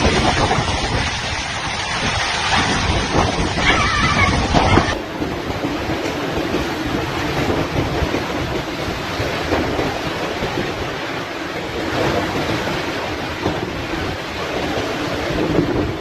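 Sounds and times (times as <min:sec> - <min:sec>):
heavy rain: 0:00.0 - 0:16.0
wind buffeting microphone: 0:00.0 - 0:16.0.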